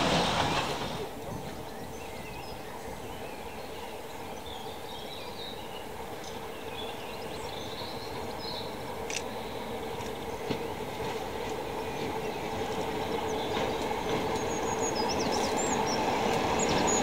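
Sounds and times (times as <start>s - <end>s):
distant diesel locomotive engine: 0.0s - 17.0s
birds chirping: 0.4s - 17.0s.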